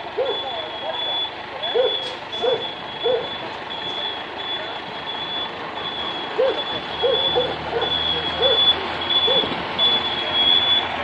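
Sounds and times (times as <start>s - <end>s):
low engine hum: 0.0s - 11.0s
truck reversing alarm beeping: 0.0s - 11.0s.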